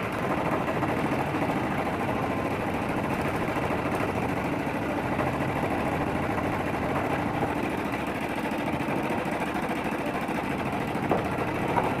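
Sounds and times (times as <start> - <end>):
wood lathe running: 0.0 - 12.0.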